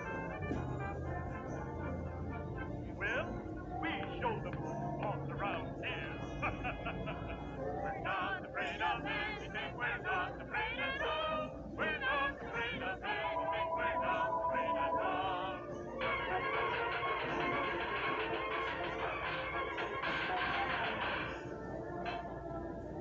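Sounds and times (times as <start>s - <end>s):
cartoon music with voices singing: 0.0s - 23.0s.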